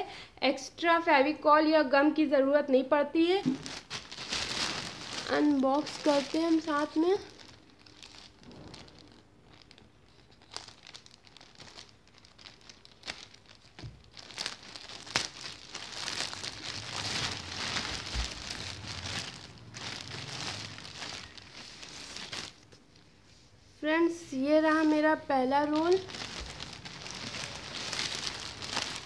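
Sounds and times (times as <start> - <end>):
plastic mailer bag crinkling: 3.4 - 22.6, 24.7 - 29.0.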